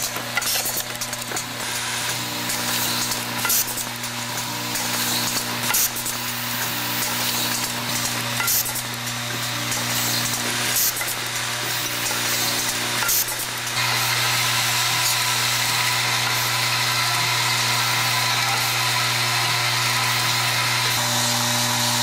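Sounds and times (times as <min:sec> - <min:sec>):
sharp machine clicks: 0:00.0 - 0:18.7
machine hiss and hum: 0:00.0 - 0:22.0.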